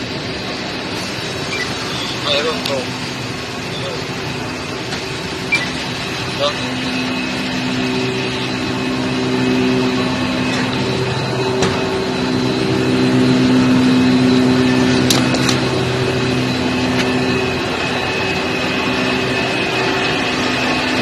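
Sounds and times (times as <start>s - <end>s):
engine room machinery drone: 0.0s - 21.0s.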